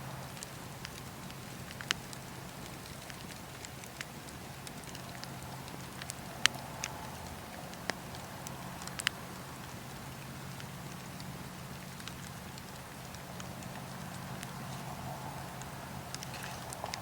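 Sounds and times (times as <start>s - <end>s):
low fire rumble: 0.0s - 17.0s
campfire pops and snaps: 0.2s - 17.0s.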